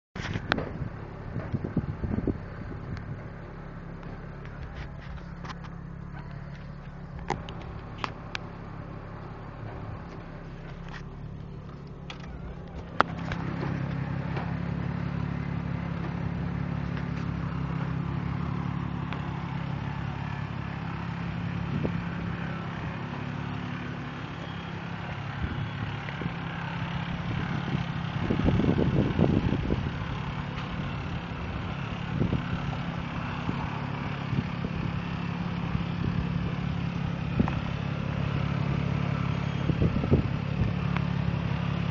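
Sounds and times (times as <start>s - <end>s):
car engine idling: 0.2s - 41.9s.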